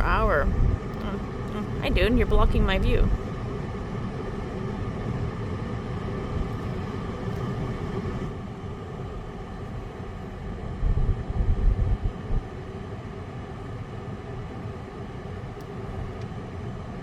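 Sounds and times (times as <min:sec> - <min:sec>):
car road and engine noise: 0:00.0 - 0:17.0
low rumbles: 0:00.0 - 0:17.0.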